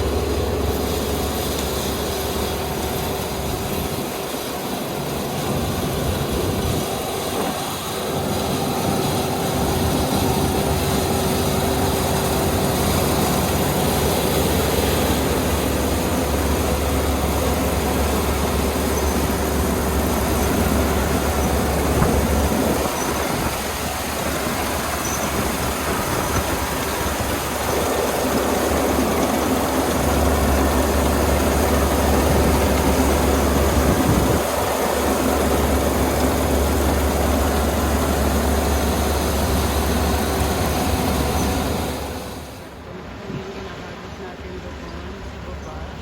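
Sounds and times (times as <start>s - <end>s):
diesel engine low hum: 0.0s - 46.0s.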